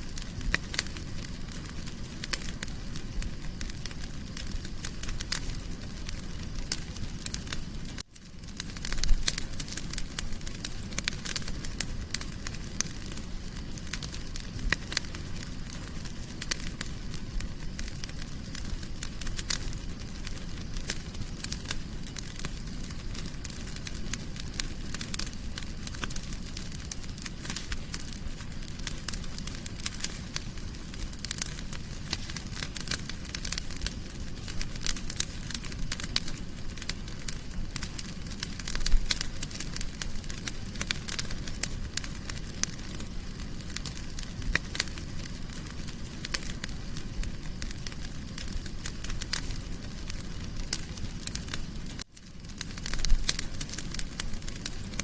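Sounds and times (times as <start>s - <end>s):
fire pops and snaps: 0.0s - 55.0s
low rumble of flames: 0.0s - 55.0s.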